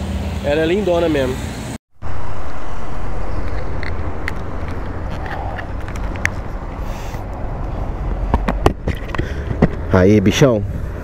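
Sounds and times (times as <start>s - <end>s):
street noise: 0.0s - 11.0s
vehicle engine rumble: 0.0s - 11.0s.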